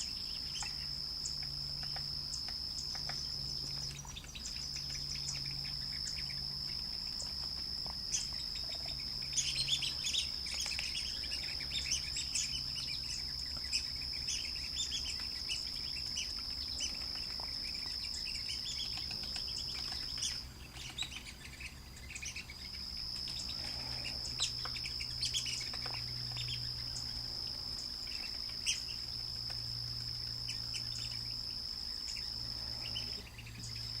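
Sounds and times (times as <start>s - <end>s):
birds chirping: 0.0s - 34.0s
insect drone: 0.0s - 34.0s.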